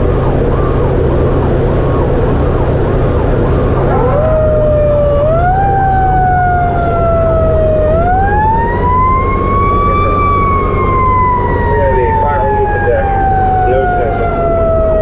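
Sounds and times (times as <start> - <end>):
mechanical fire truck siren: 0.0 - 15.0
truck engine rumble: 0.0 - 15.0.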